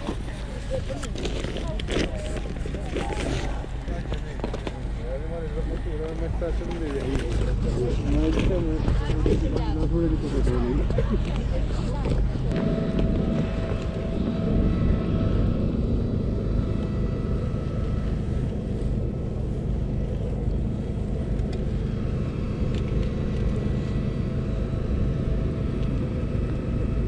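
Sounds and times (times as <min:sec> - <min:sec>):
motor running with low rumble: 0:00.0 - 0:27.0.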